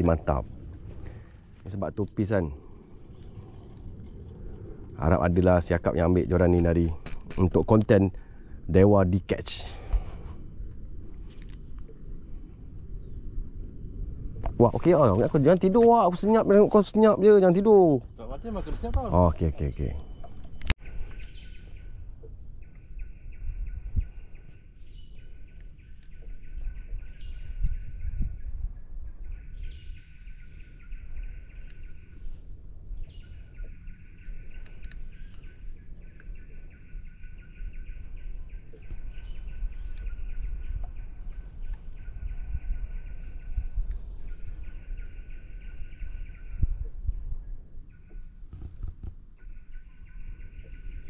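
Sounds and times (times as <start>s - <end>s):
low steady rumble: 0.0s - 51.0s.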